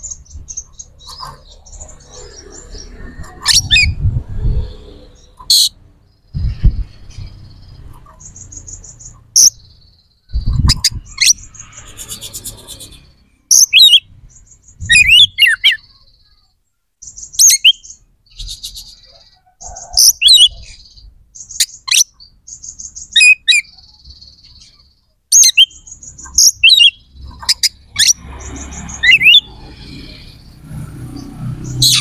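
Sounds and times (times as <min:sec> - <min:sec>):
bird singing trills and whistles: 0:00.0 - 0:32.0.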